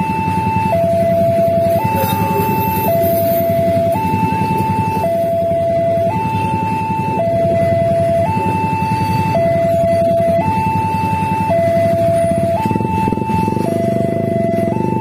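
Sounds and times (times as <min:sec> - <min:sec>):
two-tone warning alarm: 0:00.0 - 0:15.0.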